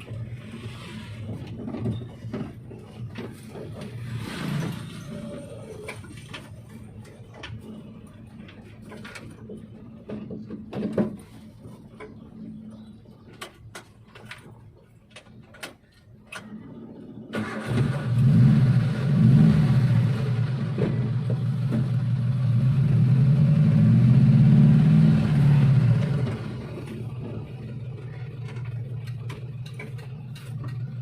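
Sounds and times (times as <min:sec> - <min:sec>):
van engine starting and running: 0:00.0 - 0:31.0.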